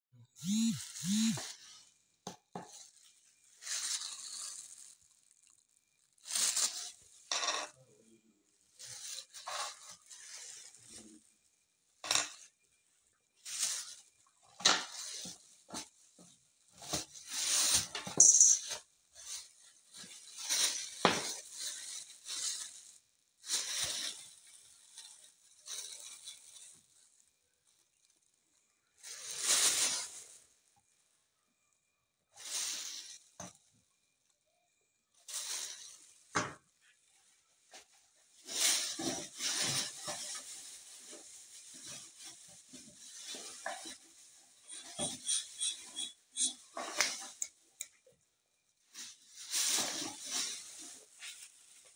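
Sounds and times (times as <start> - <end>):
plastic bags rustling: 0.4 - 31.0, 32.3 - 34.4, 35.1 - 51.9.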